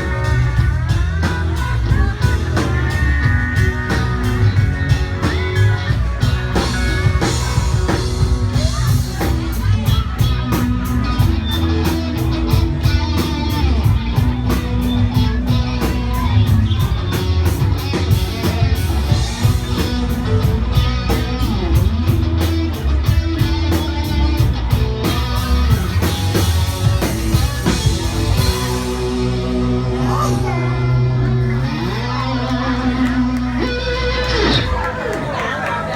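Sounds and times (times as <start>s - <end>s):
drum kit beat: 0.0s - 34.8s
country rock band playing: 0.0s - 35.9s
electric guitar: 0.0s - 35.9s.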